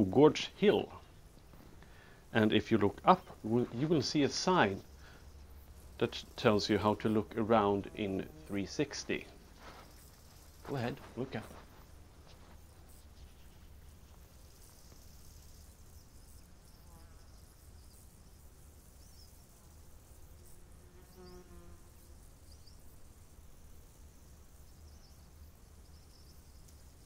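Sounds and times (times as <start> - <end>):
faint passing buzz: 0.7 - 24.4.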